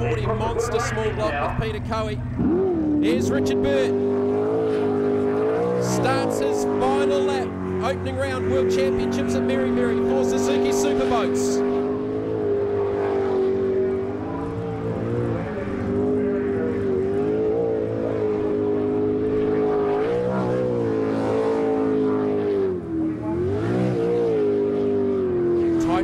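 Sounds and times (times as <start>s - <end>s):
boat engine at high revs: 0.0s - 26.0s.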